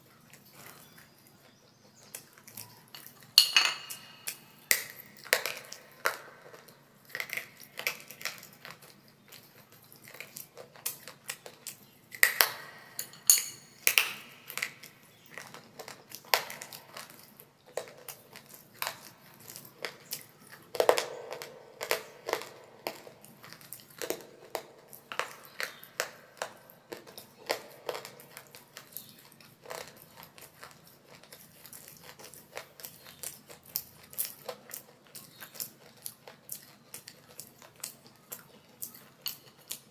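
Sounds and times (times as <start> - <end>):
biting and crunching baked clay: 0.0 - 39.9.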